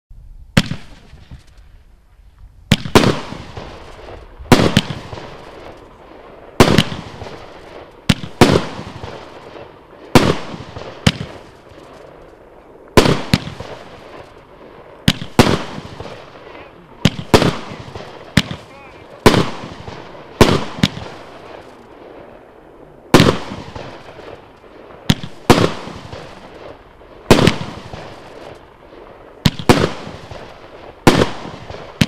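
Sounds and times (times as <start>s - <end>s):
firework bangs: 0.5s - 1.7s, 2.6s - 32.0s.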